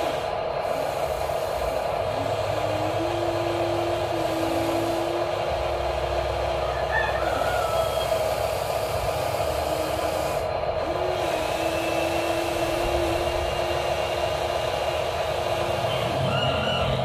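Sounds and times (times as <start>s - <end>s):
electric motor whirring: 0.0s - 17.0s.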